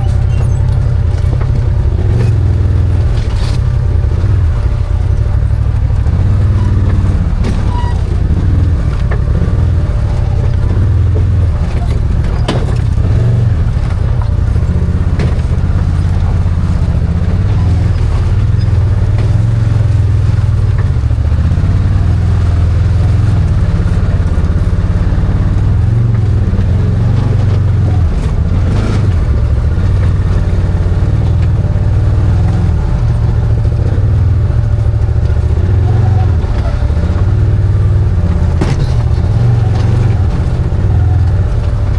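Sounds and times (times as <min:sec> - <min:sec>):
knocks and rattles: 0:00.0 - 0:41.9
vehicle engine running: 0:00.0 - 0:41.9.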